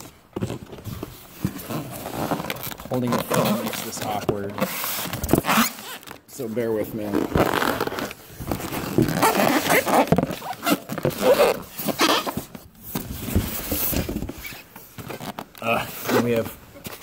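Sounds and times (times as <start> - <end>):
foam squeaking against cardboard: 1.5 - 6.2, 7.4 - 12.7, 13.4 - 17.0.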